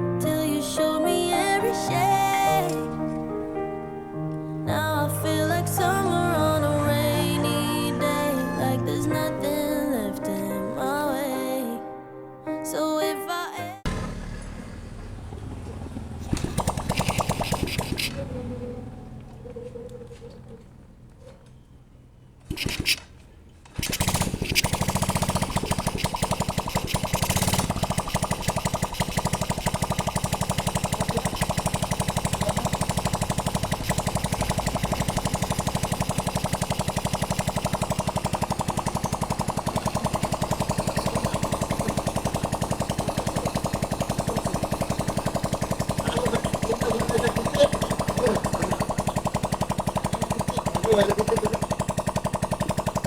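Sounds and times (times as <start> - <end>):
motorcycle engine starting and running: 0.0 - 11.5, 13.0 - 53.0.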